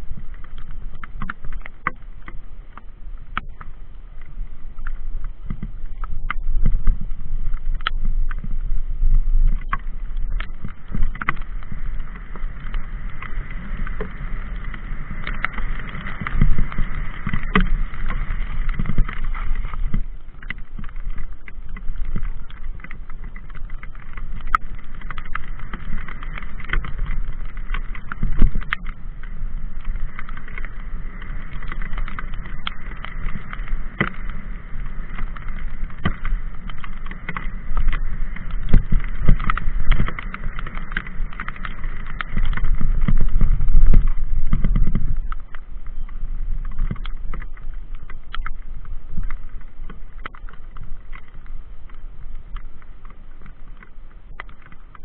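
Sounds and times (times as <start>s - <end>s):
bike knocking and rattling: 0.0s - 55.0s
bike tyres rumbling on trail: 0.0s - 55.0s.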